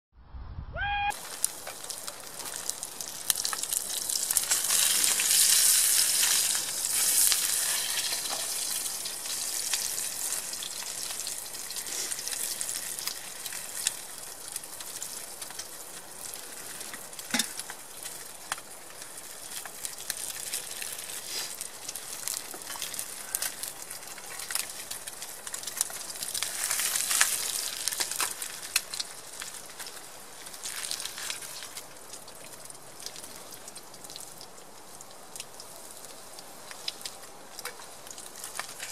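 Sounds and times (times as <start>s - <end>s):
crackles and pops: 0.8s - 38.9s
meat sizzling in a frying pan: 1.2s - 38.9s.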